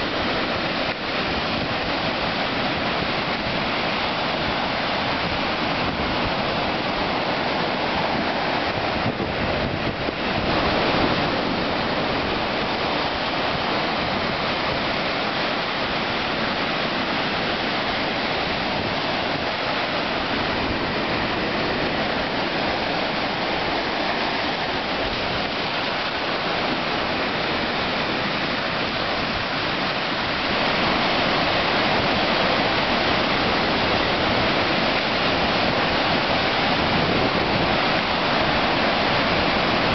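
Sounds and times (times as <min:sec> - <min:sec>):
ocean surf breaking on sand: 0:00.0 - 0:39.9.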